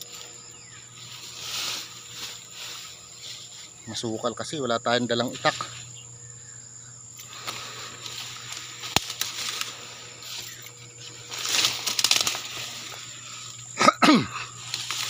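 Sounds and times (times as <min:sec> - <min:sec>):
rustling through undergrowth: 0:00.0 - 0:15.0.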